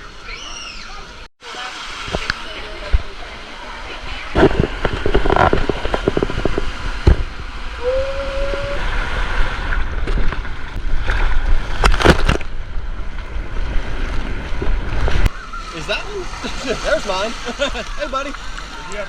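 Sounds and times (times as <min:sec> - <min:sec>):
pool water sloshing and splashing: 0:00.0 - 0:19.0.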